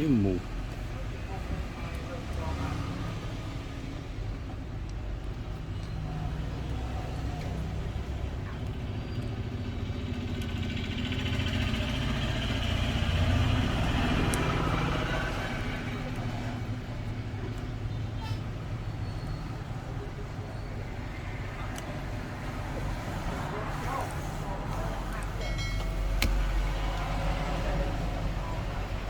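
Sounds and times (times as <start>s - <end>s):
vehicle passing: 0.0s - 4.2s, 6.0s - 29.0s
traffic engine rumble: 0.0s - 29.0s.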